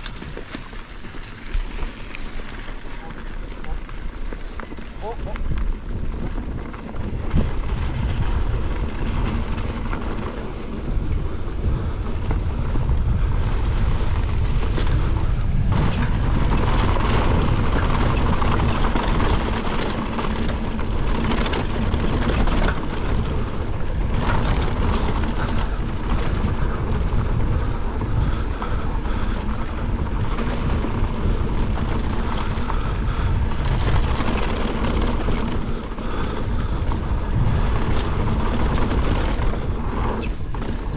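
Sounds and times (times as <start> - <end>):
bike rattling and knocking: 0.0 - 40.9
bike tyres on loose dirt: 0.0 - 40.9
wind buffeting microphone: 0.0 - 40.9.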